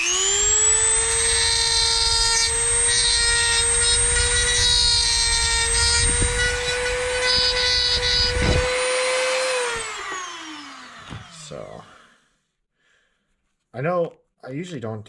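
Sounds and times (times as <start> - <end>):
rotary tool whining: 0.0 - 12.2.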